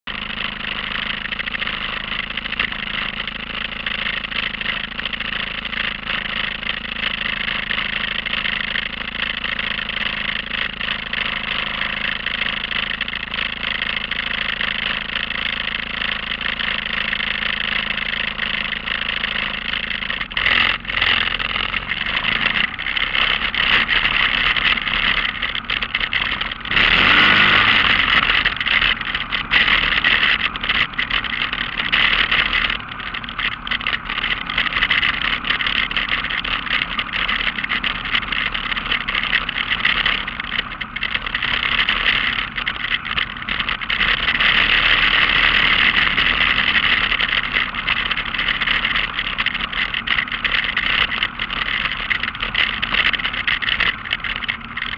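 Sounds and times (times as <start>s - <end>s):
off-road vehicle engine: 0.0s - 54.9s.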